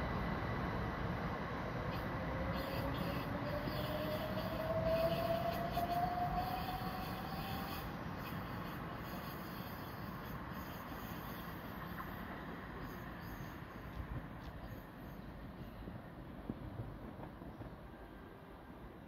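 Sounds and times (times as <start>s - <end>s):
electric train motor whine: 0.0s - 15.3s
train rumble: 0.0s - 19.0s.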